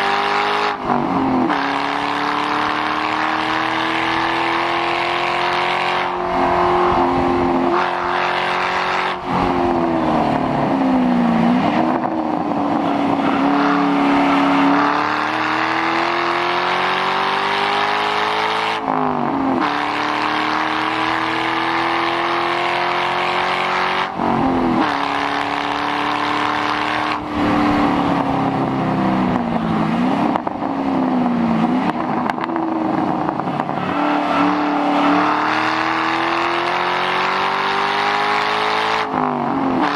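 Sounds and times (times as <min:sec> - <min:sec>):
car engine revving under acceleration: 0:00.0 - 0:39.9.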